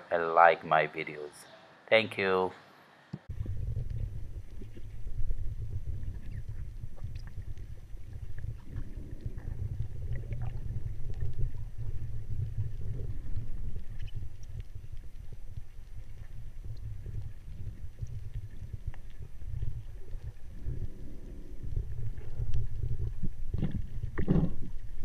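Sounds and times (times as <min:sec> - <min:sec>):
faint clicks and ticks: 0:03.1 - 0:25.0
underwater water rumble: 0:03.2 - 0:25.0.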